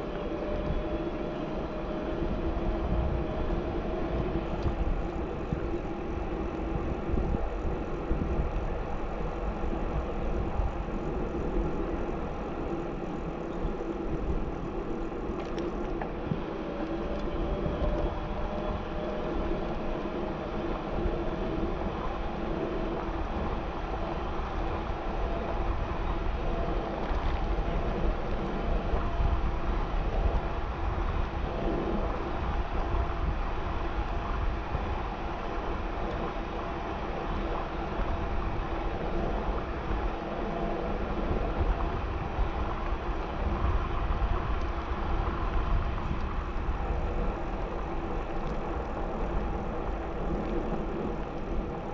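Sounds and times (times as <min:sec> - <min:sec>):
bicycle tyres rolling on asphalt: 0:00.0 - 0:51.9
wind buffeting microphone: 0:00.0 - 0:51.9.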